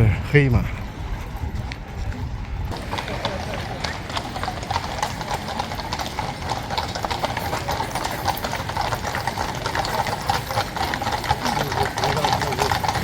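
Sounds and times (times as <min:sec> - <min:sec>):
horse hooves clip-clopping: 0:00.8 - 0:13.0.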